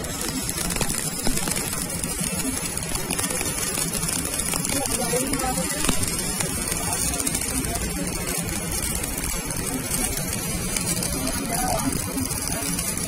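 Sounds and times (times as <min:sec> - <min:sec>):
welding arc hissing and crackling: 0:00.0 - 0:13.0.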